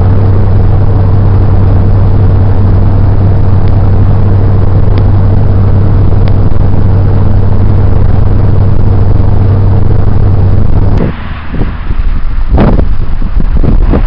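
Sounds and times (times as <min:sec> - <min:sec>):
car interior road noise: 0:00.0 - 0:14.0.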